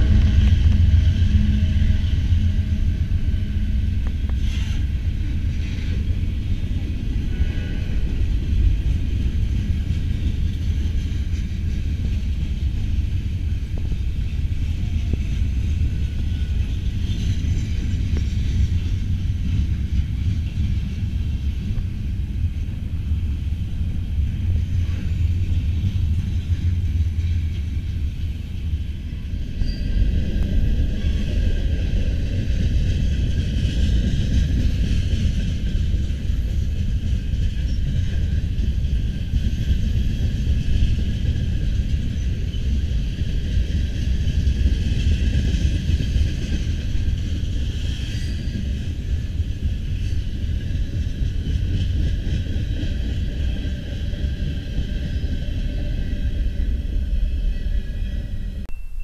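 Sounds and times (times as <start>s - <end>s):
freight train cars rolling past: 0.0s - 58.7s
steel wheels rumbling on rails: 0.0s - 58.7s.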